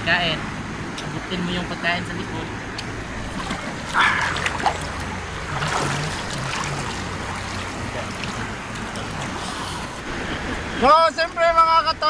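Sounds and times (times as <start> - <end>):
river rushing: 1.6 - 12.0.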